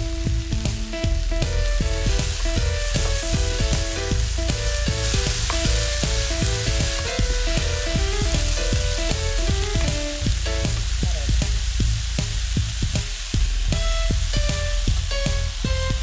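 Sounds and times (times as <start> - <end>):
background music: 0.0 - 16.0
cabbage sizzling in oil: 0.0 - 16.0.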